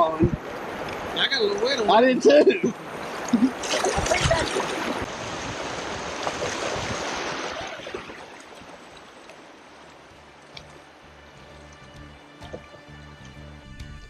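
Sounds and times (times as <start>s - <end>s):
river rapids rushing: 0.0s - 13.4s.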